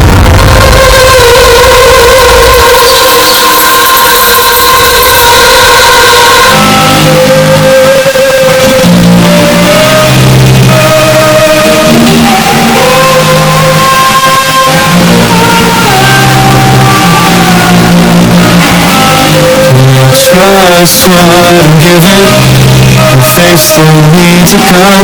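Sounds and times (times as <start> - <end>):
bass-boosted pop-rock music: 0.0 - 25.0.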